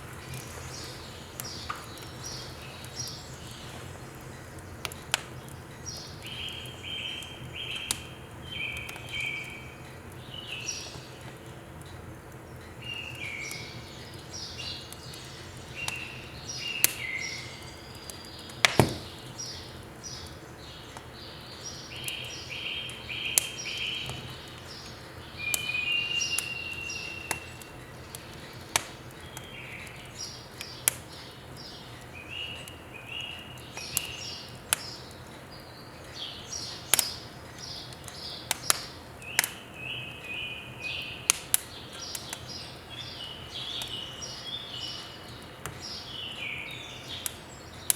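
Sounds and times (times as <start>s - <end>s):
small birds chirping: 0.0s - 47.9s
wood fire crackling in stove: 0.0s - 47.9s.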